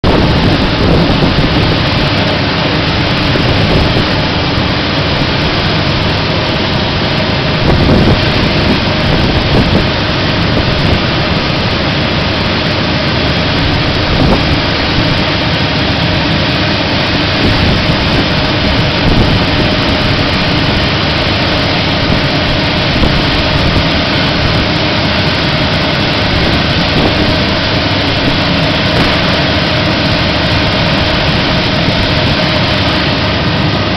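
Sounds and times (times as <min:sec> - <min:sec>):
vacuum machine running: 0:00.0 - 0:33.9.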